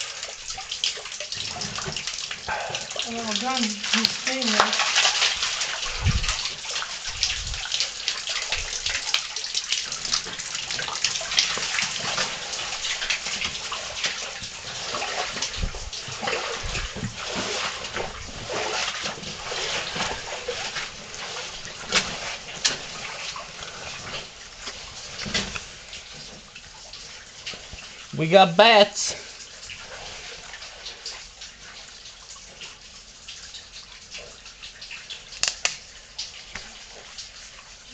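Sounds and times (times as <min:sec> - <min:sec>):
stream water splashing: 0:00.0 - 0:37.9.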